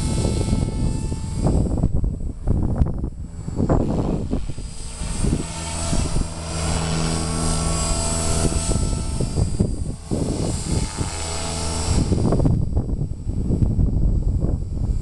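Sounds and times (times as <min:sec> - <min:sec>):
rc helicopter rotor whining: 0:00.0 - 0:15.0
wind gusts on microphone: 0:00.0 - 0:15.0.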